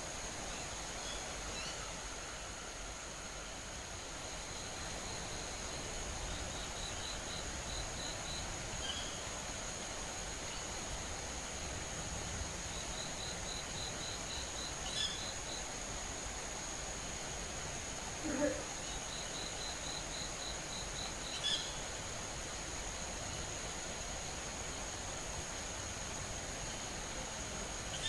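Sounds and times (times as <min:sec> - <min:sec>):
insect whine: 0:00.0 - 0:28.0.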